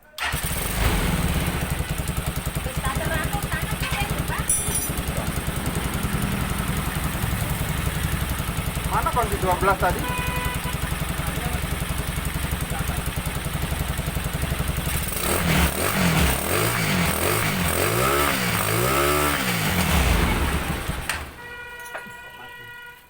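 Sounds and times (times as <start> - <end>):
motorcycle engine idling and revving: 0.2 - 22.2.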